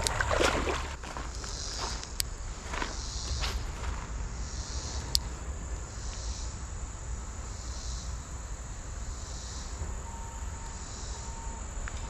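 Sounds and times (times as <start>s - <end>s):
insects buzzing: 0.0s - 12.0s
low rumble: 2.3s - 12.0s.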